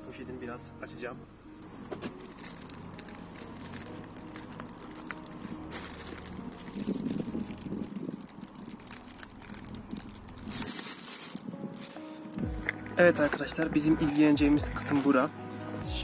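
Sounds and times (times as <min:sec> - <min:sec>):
plastic sheet crinkling: 0:01.6 - 0:15.9.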